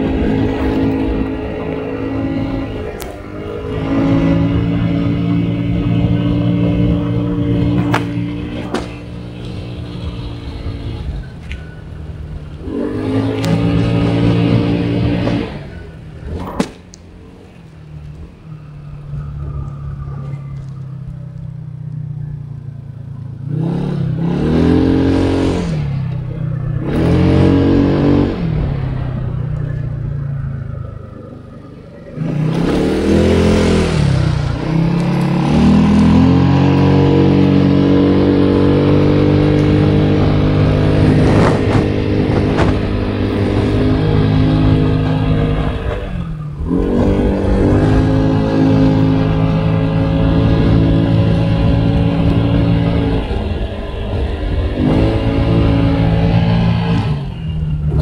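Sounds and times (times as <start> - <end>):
vehicle engine changing gear: 0.0 - 58.0.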